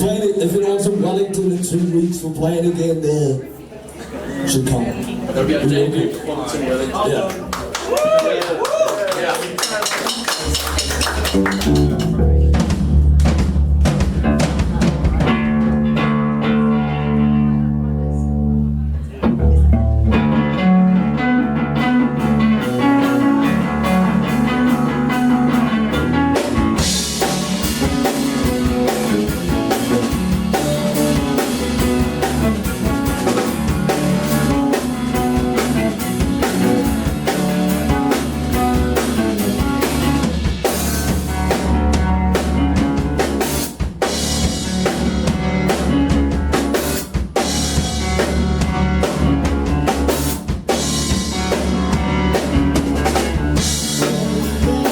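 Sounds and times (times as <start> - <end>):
drum kit: 9.2 - 17.6, 19.0 - 54.9
live rock band playing: 9.4 - 54.9.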